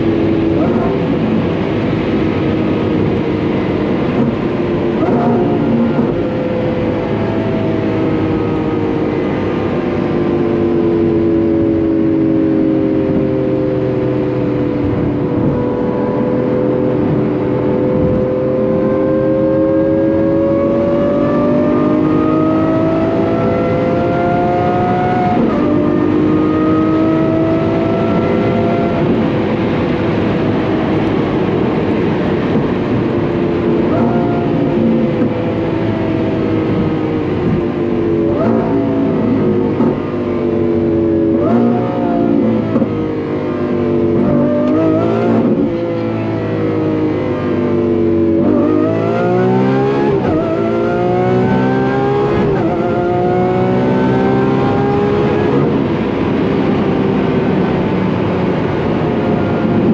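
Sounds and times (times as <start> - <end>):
car engine revving from cabin: 0.0 - 59.9.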